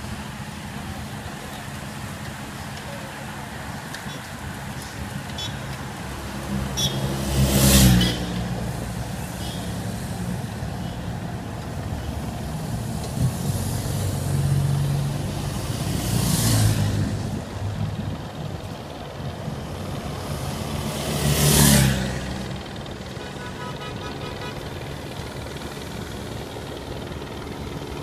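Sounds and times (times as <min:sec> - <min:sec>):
cars driving past: 0:00.0 - 0:26.5
street noise: 0:00.0 - 0:28.0.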